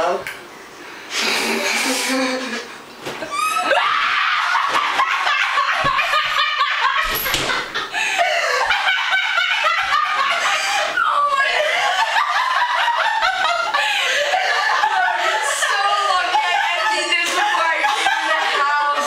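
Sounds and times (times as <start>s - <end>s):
young women shrieking and laughing: 3.2s - 19.0s.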